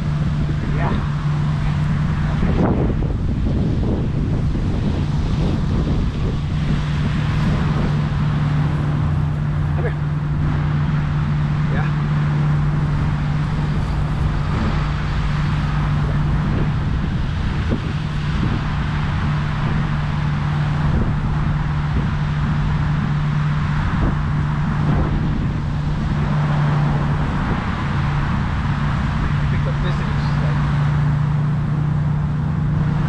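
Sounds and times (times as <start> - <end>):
low hum: 0.0 - 33.0
passing cars: 0.0 - 33.0.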